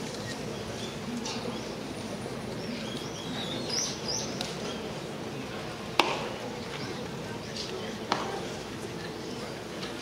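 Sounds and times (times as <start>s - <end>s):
ballpark crowd murmur: 0.0s - 10.0s.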